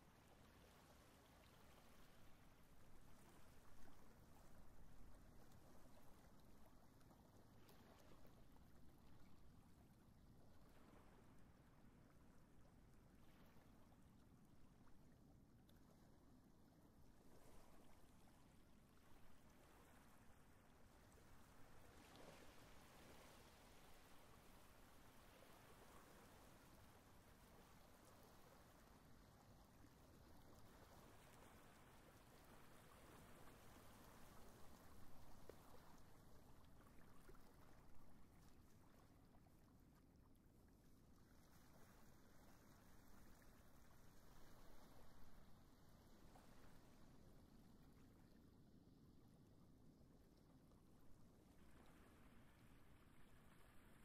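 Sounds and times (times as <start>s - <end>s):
faint small waves washing: 0.0s - 54.0s.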